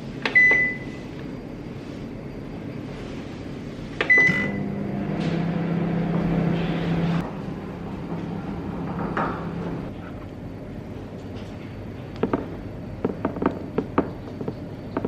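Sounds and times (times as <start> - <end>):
appliance electrical hum: 0.0 - 15.0.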